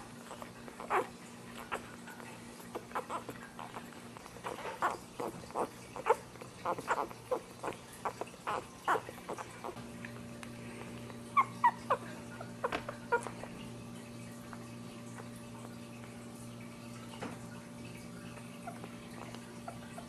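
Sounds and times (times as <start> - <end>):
puppies squeaking and whimpering: 0.0 - 9.8, 10.7 - 16.1, 18.3 - 20.0.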